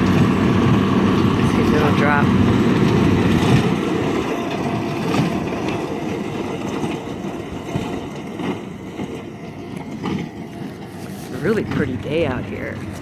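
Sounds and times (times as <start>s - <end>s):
tractor running: 0.0s - 13.0s.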